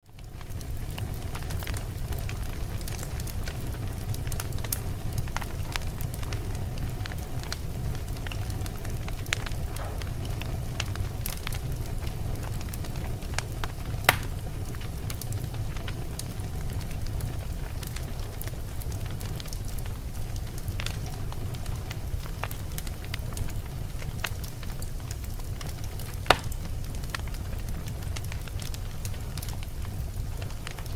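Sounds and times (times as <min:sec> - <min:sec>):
fire crackling and popping: 0:00.0 - 0:30.9.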